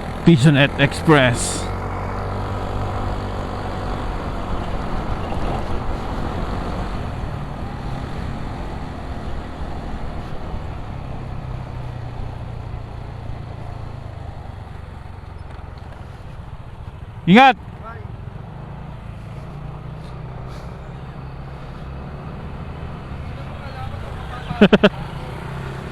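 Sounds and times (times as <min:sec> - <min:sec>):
road and wind noise: 0:01.1 - 0:25.9.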